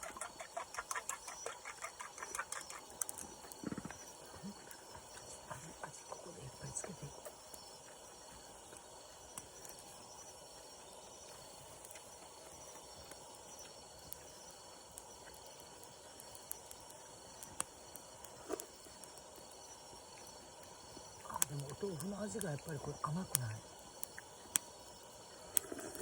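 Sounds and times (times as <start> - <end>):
campfire crackling: 0.0 - 26.0
insects: 0.0 - 26.0.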